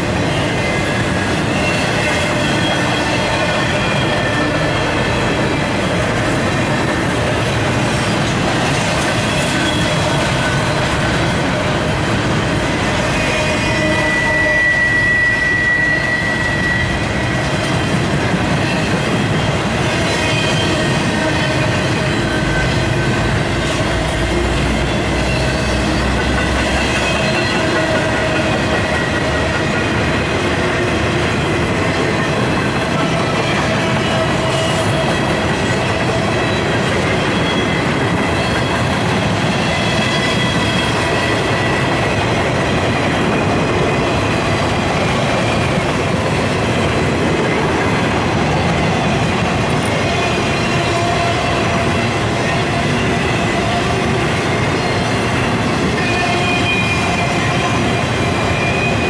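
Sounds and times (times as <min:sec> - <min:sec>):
freight train rolling past: 0:00.0 - 0:59.0
high wheel squeal: 0:00.1 - 0:06.0, 0:08.1 - 0:11.6, 0:12.6 - 0:31.0, 0:32.9 - 0:46.0, 0:47.5 - 0:59.0.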